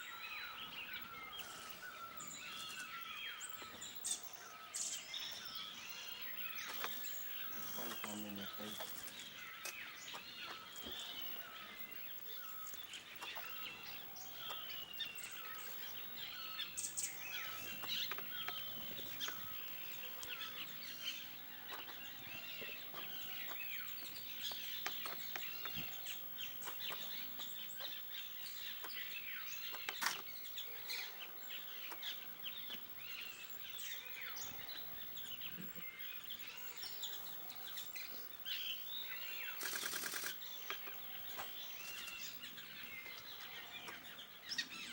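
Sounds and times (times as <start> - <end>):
birds chirping and whistling: 0.0 - 44.9.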